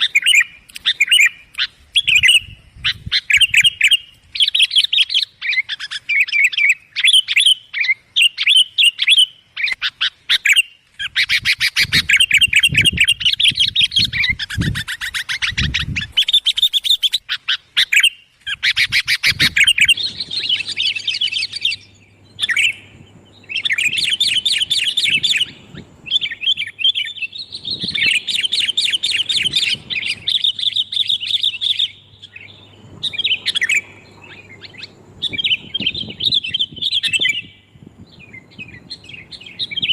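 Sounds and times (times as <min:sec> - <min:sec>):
bulbuls chattering: 0:00.0 - 0:37.5.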